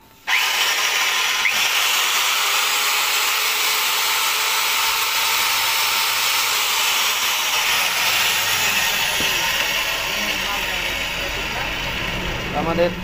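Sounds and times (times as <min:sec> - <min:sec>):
electric cutter motor whirring: 0:00.0 - 0:12.8.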